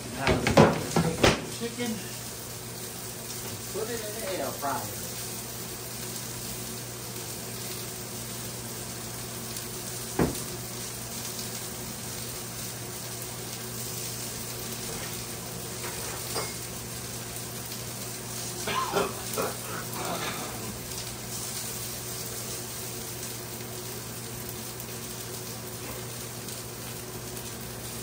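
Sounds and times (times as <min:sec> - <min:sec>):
food sizzling on stovetop: 0:00.0 - 0:28.0.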